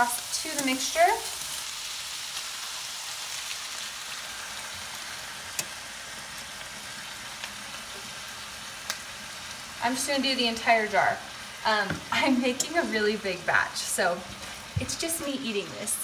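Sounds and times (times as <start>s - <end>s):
meat sizzling in a skillet: 0.0s - 16.0s.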